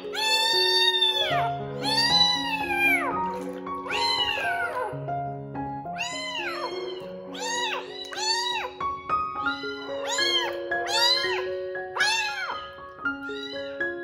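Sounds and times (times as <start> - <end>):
kitten meowing: 0.0 - 5.0, 5.9 - 13.8
background piano music: 0.0 - 14.0.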